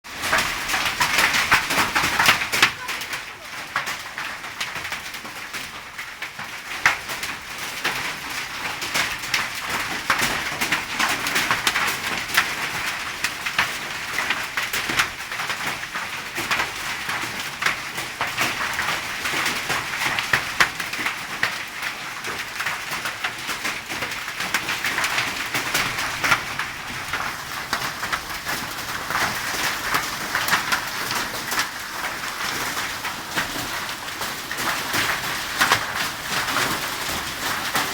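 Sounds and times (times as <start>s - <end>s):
hail and rain pelting: 0.0s - 37.9s.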